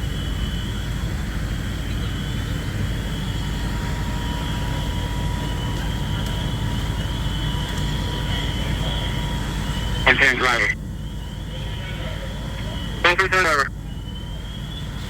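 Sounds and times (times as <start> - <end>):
fire engines rumbling: 0.0 - 15.0
lower whine: 0.0 - 15.0
thin high whine: 2.3 - 15.0.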